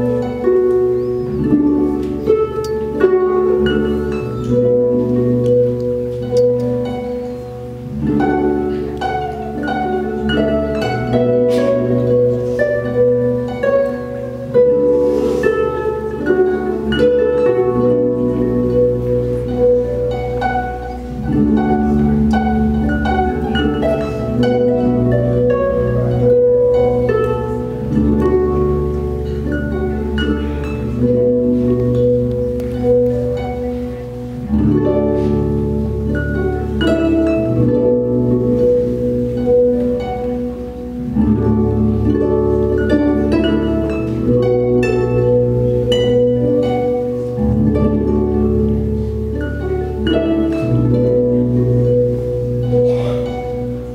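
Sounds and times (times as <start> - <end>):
harp plucked notes: 0.0 - 53.9.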